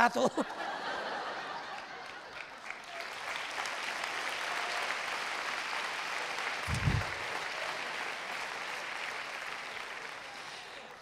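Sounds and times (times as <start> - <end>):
audience applauding: 1.0 - 11.0.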